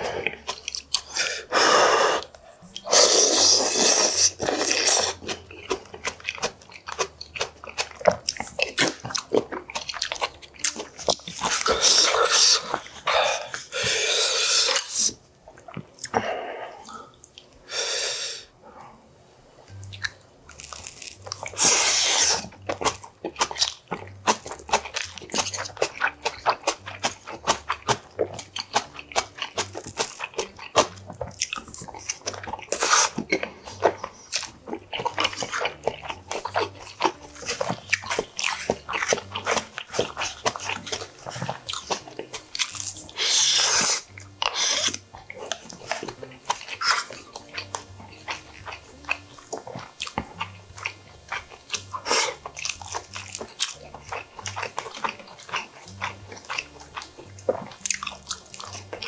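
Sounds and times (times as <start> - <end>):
man chewing food: 0.0 - 59.0
crunchy wet chewing clicks: 0.1 - 1.5, 2.2 - 13.8, 19.7 - 59.0.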